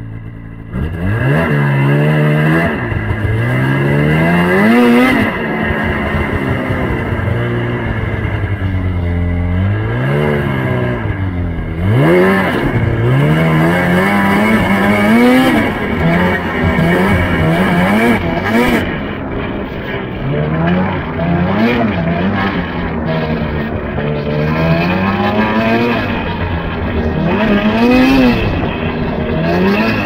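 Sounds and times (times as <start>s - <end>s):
engine revving: 0.0s - 30.0s.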